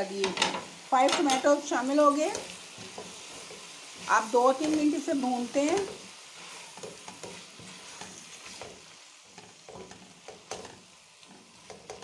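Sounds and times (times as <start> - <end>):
food sizzling in oil: 0.0 - 12.0
spatula scraping a pan: 0.3 - 12.0.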